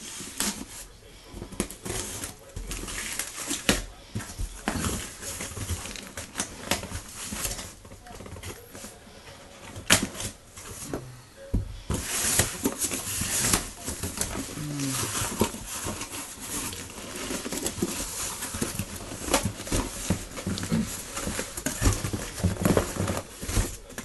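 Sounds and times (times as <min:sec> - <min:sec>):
cardboard rustling and scraping: 0:00.0 - 0:11.0, 0:11.6 - 0:24.0.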